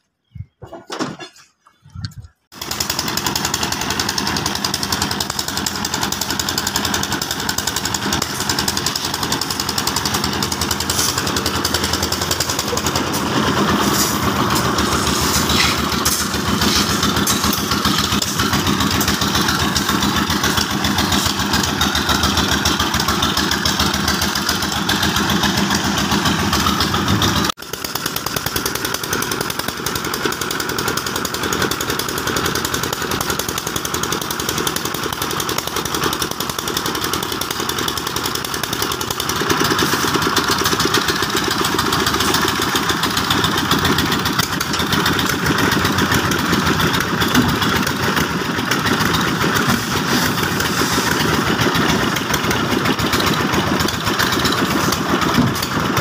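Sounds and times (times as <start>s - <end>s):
concrete mixer engine running: 2.2s - 56.0s.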